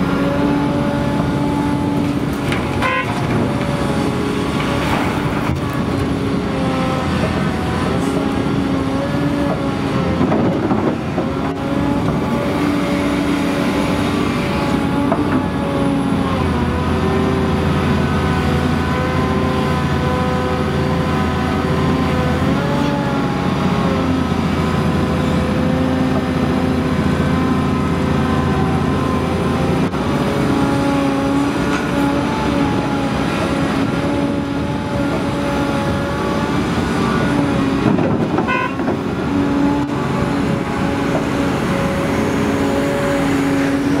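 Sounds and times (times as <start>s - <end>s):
excavator diesel engine under load: 0.0s - 44.0s.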